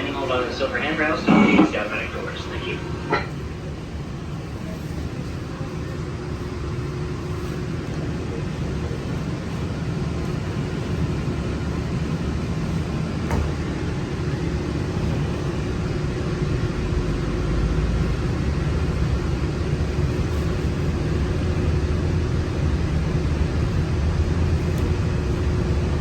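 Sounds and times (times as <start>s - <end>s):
monorail cabin rumble: 0.0s - 26.0s.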